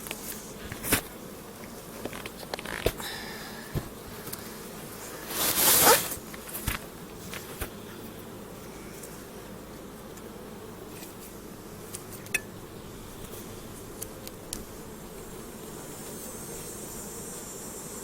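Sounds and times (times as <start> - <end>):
honeybees humming: 0.0 - 18.0.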